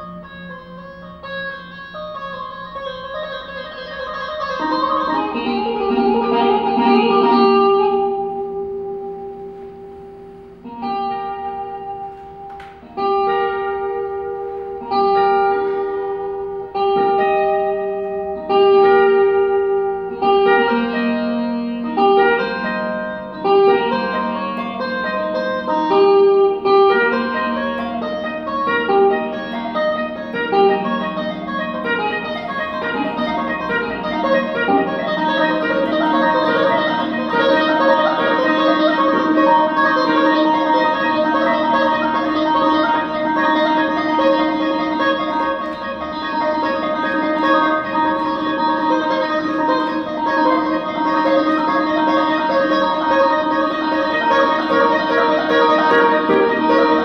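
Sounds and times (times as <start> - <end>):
electric guitar single notes: 0.0 - 57.0.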